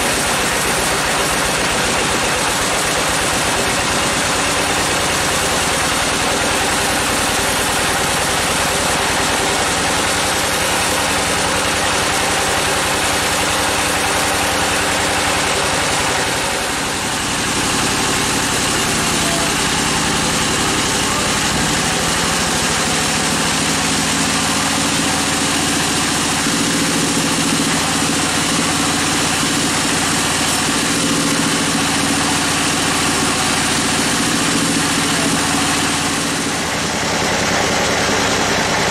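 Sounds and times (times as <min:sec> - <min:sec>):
bandsaw blade cutting log: 0:00.0 - 0:38.9
sawmill drive droning: 0:00.0 - 0:38.9.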